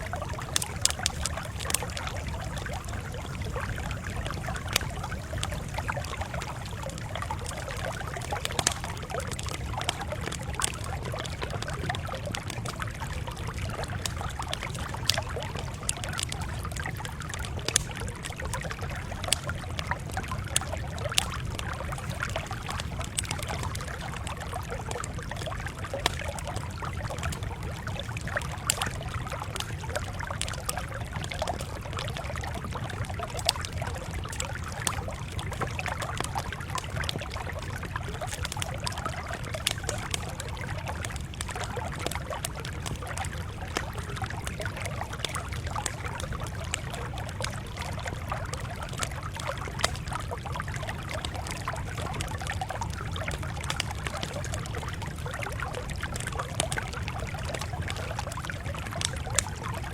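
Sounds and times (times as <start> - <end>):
campfire crackling: 0.0 - 59.9
fire popping and snapping: 0.0 - 59.9.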